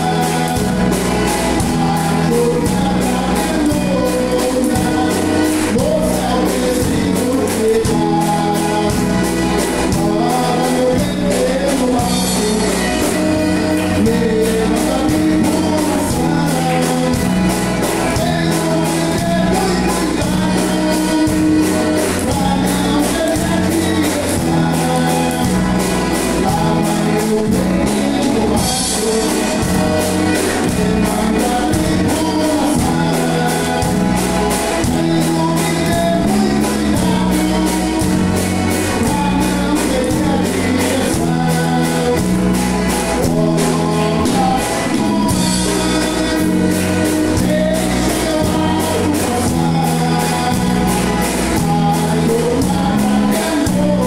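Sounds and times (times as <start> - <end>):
accordion: 0.0 - 54.0
drum kit beat: 0.0 - 54.0
electric bass: 0.0 - 54.0
electric guitar: 0.0 - 54.0
person singing: 0.0 - 54.0.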